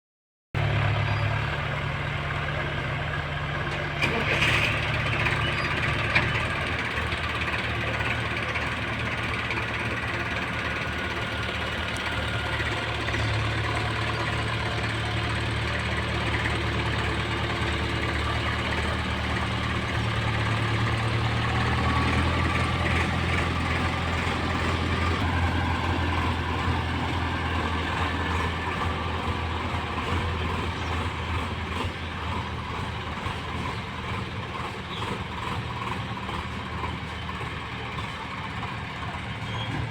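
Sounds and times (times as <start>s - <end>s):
diesel tractor engine running: 0.6s - 39.9s.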